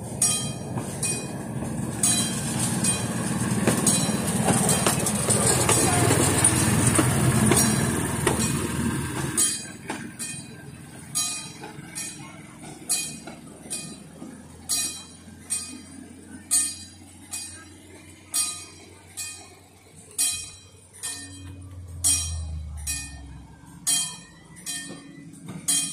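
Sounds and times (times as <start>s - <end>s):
level crossing warning bell: 0.0s - 25.9s
rail vehicle running past: 0.0s - 25.9s.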